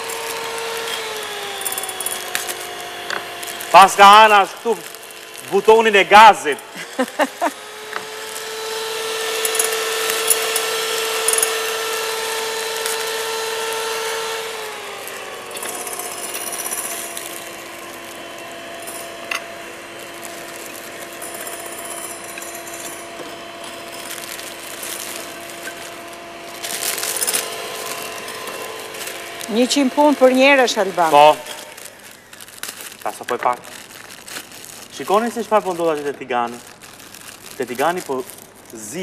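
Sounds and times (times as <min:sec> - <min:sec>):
electric hand mixer whirring: 0:00.0 - 0:39.0.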